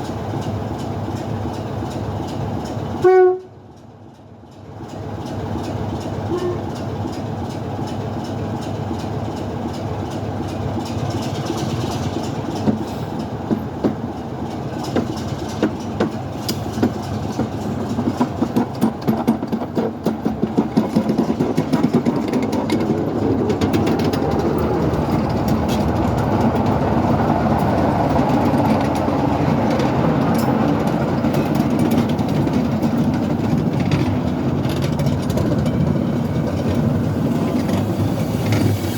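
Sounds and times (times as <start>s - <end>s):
railway locomotives running: 0.0s - 38.9s.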